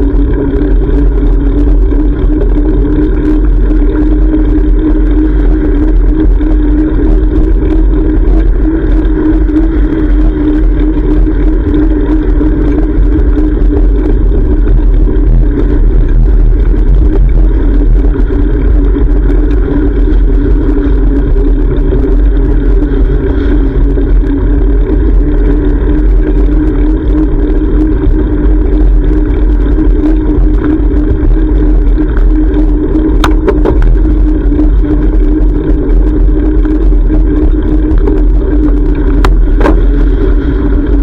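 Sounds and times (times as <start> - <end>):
constant low hum: 0.0 - 41.0
wind rumble on microphone: 0.0 - 41.0.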